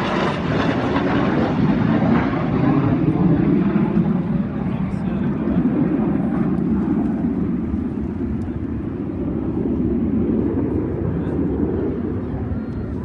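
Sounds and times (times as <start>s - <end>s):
aircraft engine noise: 0.0s - 13.0s.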